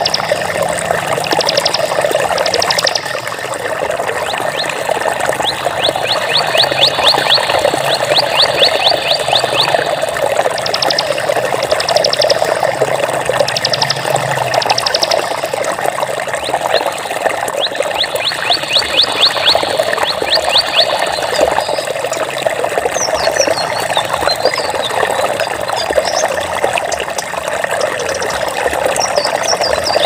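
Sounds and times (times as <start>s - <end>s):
birds chirping and trilling: 0.0s - 0.6s, 1.2s - 3.4s, 4.0s - 12.8s, 13.4s - 15.6s, 16.4s - 22.3s, 22.9s - 27.0s, 27.6s - 30.0s
flowing water: 0.0s - 30.0s.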